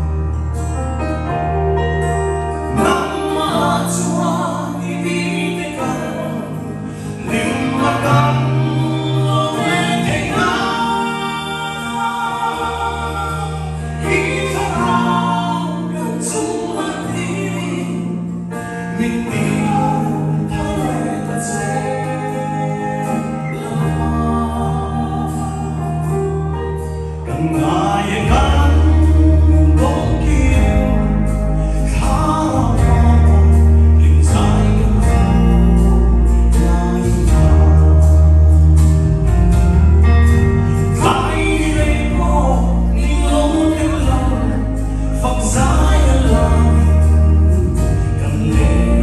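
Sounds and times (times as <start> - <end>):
instrumental accompaniment with bass: 0.0 - 49.0
man singing gospel: 2.7 - 49.0.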